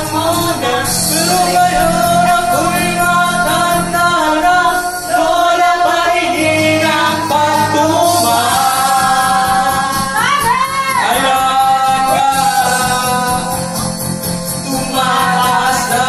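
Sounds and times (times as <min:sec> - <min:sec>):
man singing karaoke: 0:00.0 - 0:16.0
music backing track: 0:00.0 - 0:16.0.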